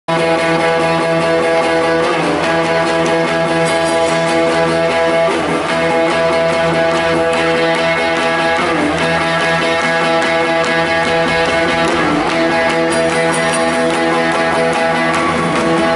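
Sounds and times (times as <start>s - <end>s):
guitar droning chord: 0.1s - 15.9s.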